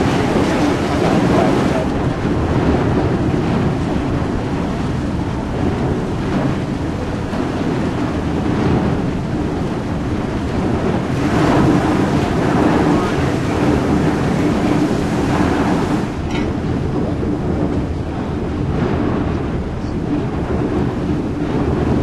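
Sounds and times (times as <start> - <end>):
propeller wash churning: 0.0 - 22.0
ship engines rumbling: 0.0 - 22.0.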